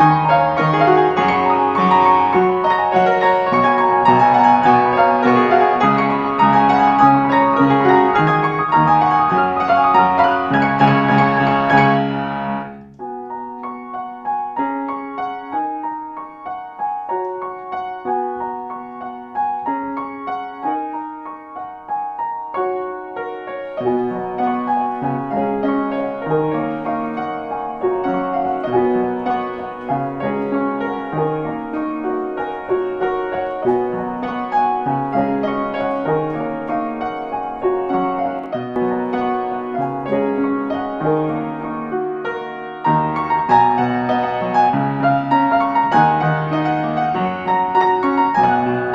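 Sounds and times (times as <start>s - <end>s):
solo piano music: 0.0s - 48.9s.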